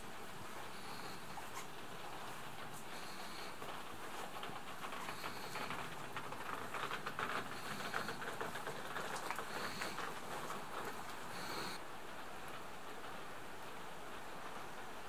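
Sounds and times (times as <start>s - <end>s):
rainwater dripping on metal roofs: 0.0s - 15.0s.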